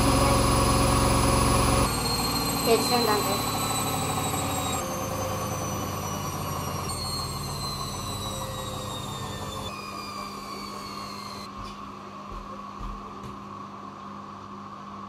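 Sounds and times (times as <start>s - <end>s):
washing machine motor whine: 0.0s - 15.0s.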